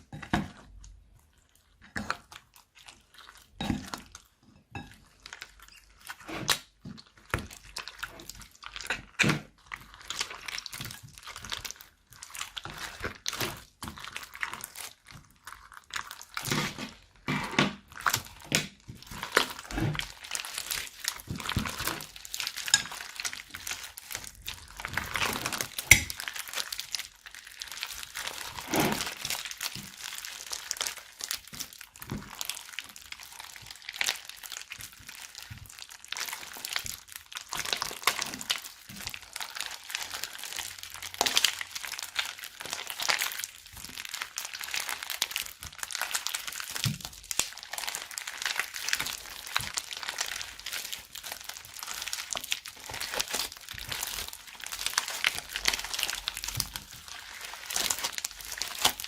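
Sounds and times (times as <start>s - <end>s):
slime squishing and crackling: 0.0s - 59.0s.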